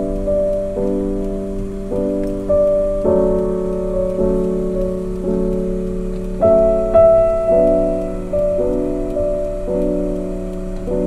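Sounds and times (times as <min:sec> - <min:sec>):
slow keyboard chords: 0:00.0 - 0:11.0.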